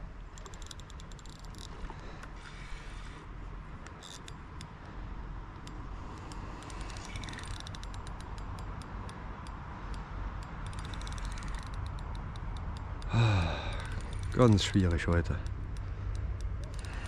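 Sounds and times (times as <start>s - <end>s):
fast light clicks: 0.3s - 2.3s, 3.8s - 17.0s.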